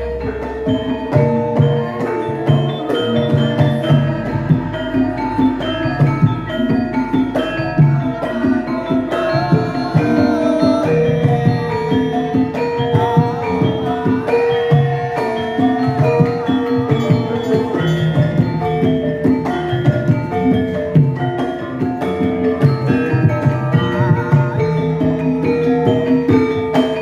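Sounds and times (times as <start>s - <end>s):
metallophones ringing: 0.0s - 27.0s.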